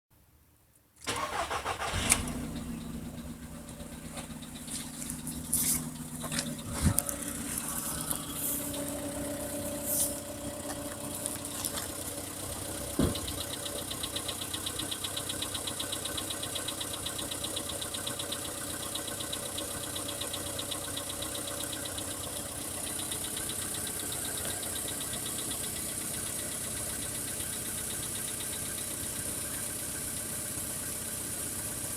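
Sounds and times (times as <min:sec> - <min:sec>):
car engine cranking and idling: 0:01.0 - 0:31.9.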